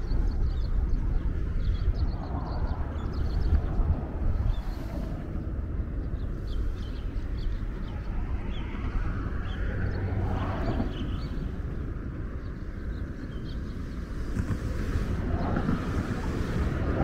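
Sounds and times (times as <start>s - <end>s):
steady low city rumble: 0.0s - 17.0s.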